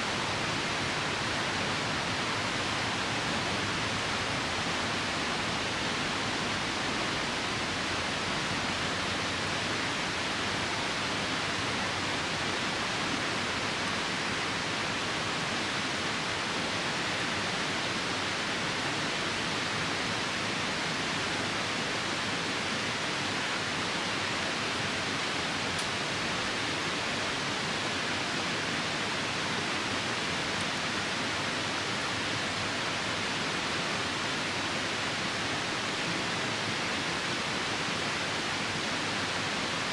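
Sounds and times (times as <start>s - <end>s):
rain: 0.0s - 39.9s
river rushing: 0.0s - 39.9s.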